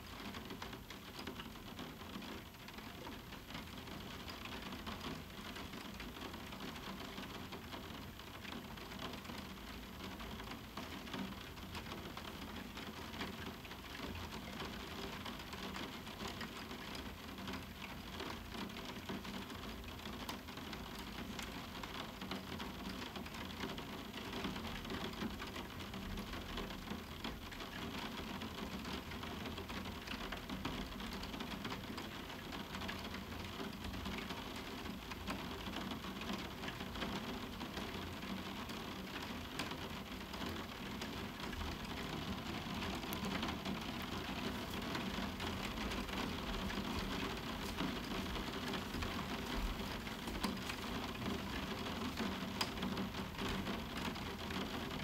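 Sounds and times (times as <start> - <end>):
raindrops ticking on window: 0.0 - 55.0
steady hiss of rain: 0.0 - 55.0.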